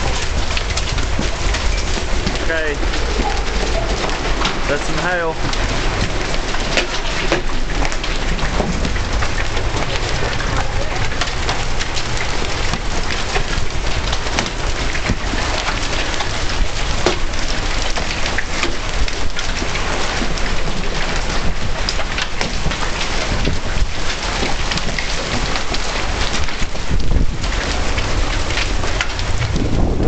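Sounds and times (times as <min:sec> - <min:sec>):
hailstones hitting: 0:00.0 - 0:30.0
heavy rain hiss: 0:00.0 - 0:30.0
storm wind rumble: 0:00.0 - 0:30.0.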